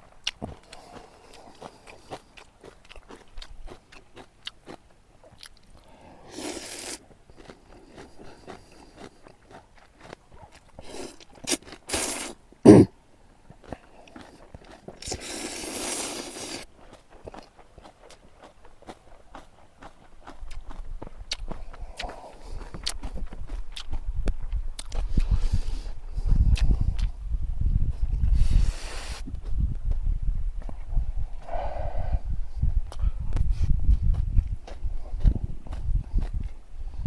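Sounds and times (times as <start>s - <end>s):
crunchy chewing: 0.0s - 27.2s, 32.9s - 36.7s.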